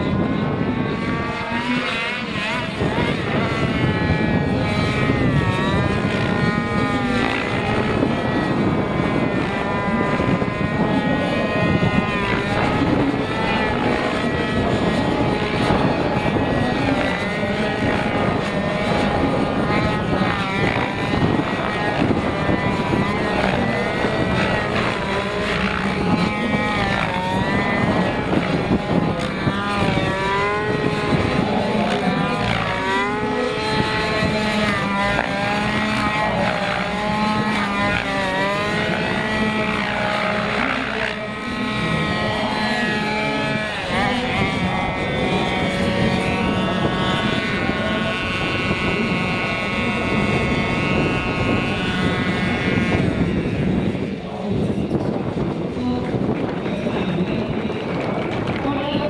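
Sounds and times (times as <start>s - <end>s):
model helicopter flying: 0.0s - 59.0s.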